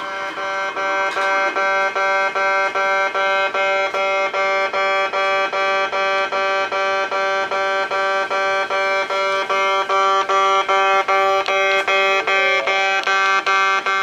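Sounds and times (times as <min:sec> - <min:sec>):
level crossing alarm buzzing: 0:00.0 - 0:14.0.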